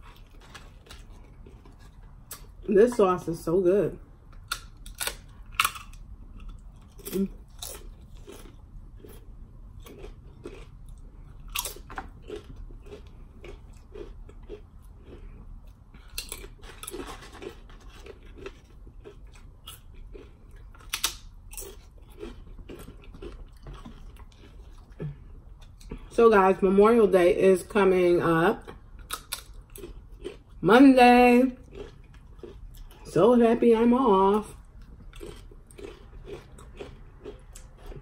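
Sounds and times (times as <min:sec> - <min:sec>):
chewing: 0:00.0 - 0:03.0, 0:04.3 - 0:26.1, 0:28.6 - 0:30.6, 0:31.5 - 0:33.1, 0:34.4 - 0:38.0
chips crunching: 0:00.0 - 0:03.5, 0:04.3 - 0:25.0, 0:28.6 - 0:38.0.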